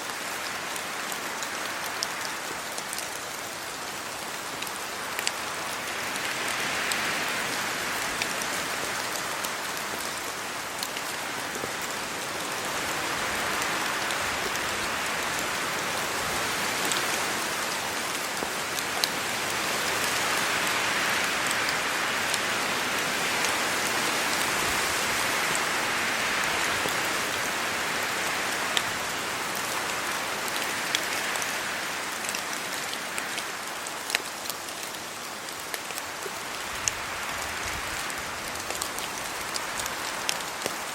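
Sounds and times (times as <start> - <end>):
rain drops ticking: 0.0 - 40.9
rain on trees and leaves: 0.0 - 40.9
wind gusts: 3.6 - 33.9, 36.1 - 40.9.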